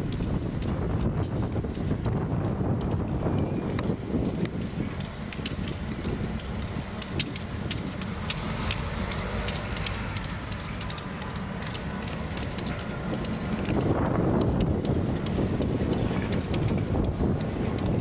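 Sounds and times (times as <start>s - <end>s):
diesel locomotive engine rumble: 0.0s - 18.0s
wheels clacking on rail: 0.0s - 18.0s.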